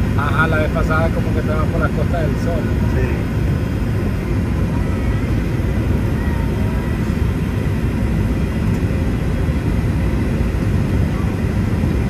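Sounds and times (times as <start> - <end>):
jet airliner cabin roar: 0.0 - 12.0.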